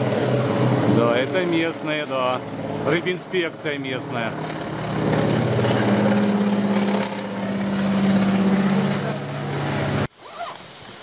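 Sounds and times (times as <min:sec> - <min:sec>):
propeller plane droning overhead: 0:00.0 - 0:10.1.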